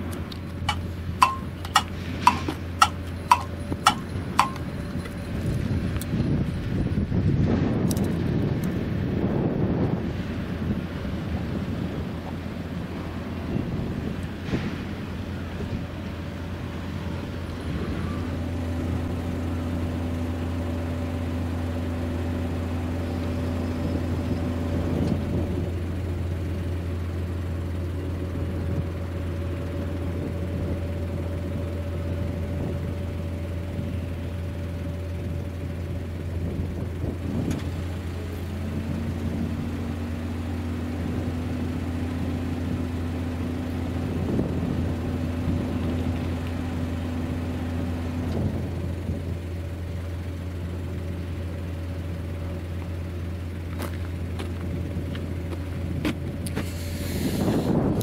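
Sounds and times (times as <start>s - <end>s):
engine idling: 0.0s - 9.0s, 10.0s - 58.0s.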